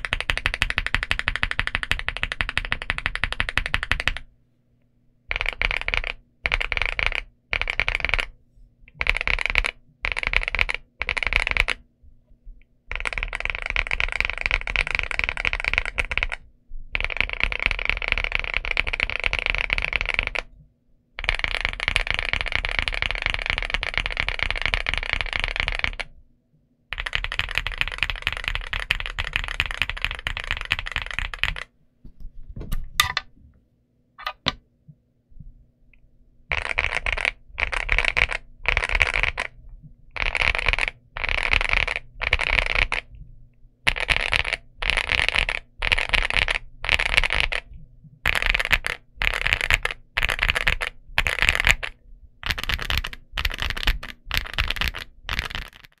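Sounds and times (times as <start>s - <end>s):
mechanical keyboard typing: 0.0s - 4.3s, 5.3s - 8.3s, 9.0s - 11.8s, 12.9s - 20.5s, 21.2s - 26.1s, 27.0s - 31.7s, 36.5s - 43.1s, 43.9s - 47.7s, 48.3s - 56.0s.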